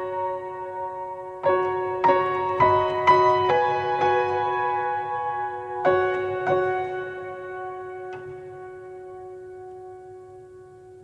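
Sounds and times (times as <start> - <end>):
piano chord ringing: 0.0 - 11.0.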